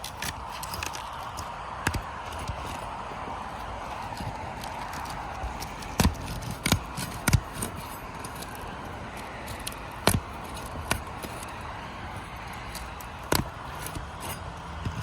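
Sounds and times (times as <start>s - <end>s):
shingles snapping loose: 0.0s - 15.0s.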